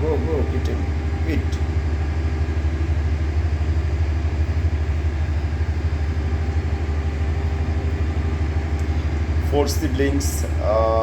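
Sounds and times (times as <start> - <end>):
machinery humming with throb: 0.0 - 11.0.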